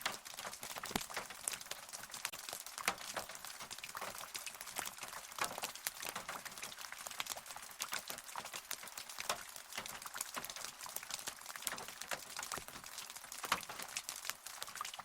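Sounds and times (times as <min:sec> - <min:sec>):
rain drops tapping: 0:00.0 - 0:15.0.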